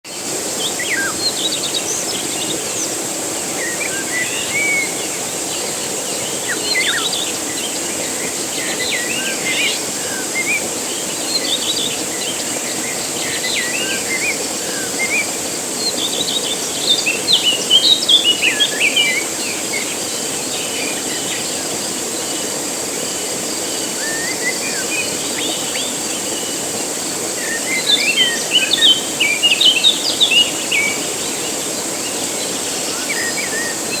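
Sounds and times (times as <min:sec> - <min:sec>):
birds chirping: 0:00.1 - 0:34.0
waterfall splashing: 0:00.1 - 0:34.0.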